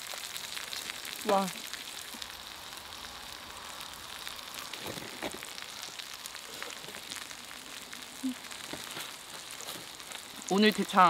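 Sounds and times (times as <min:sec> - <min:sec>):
meat sizzling on griddle: 0:00.0 - 0:11.0.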